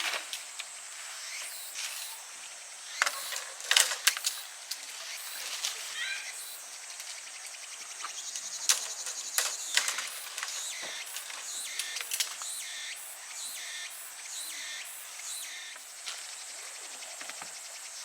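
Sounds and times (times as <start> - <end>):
high insect buzz: 0.0 - 18.0.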